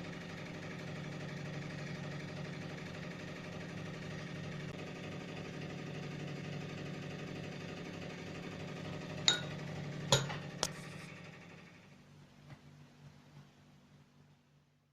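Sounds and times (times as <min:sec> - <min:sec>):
microwave oven humming: 0:00.0 - 0:14.9.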